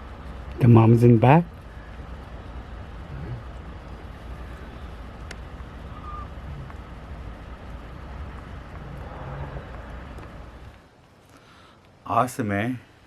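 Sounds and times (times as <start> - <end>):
car rumble: 0.0 - 12.0.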